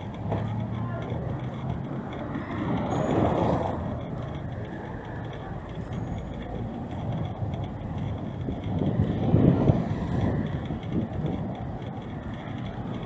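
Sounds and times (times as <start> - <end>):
hum of traffic: 0.0 - 13.0
vehicle passing: 0.0 - 13.0.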